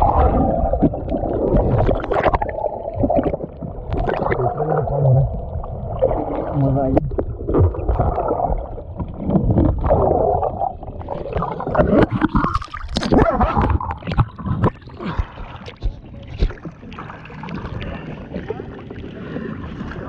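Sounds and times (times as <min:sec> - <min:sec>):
muffled underwater churning: 0:00.0 - 0:20.0
water splashing and lapping: 0:00.0 - 0:20.0.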